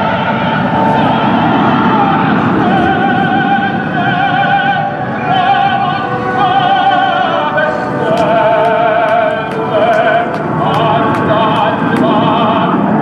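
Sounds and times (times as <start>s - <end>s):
operatic solo voice singing: 0.0s - 13.0s
orchestra playing: 0.6s - 12.1s.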